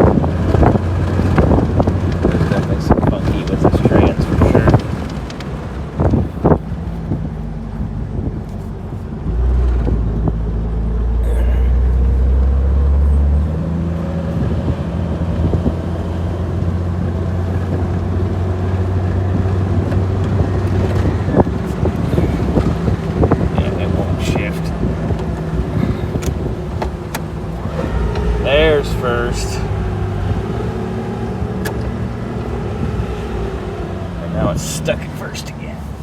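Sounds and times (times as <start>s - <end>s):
car engine drone while driving: 0.0s - 36.0s.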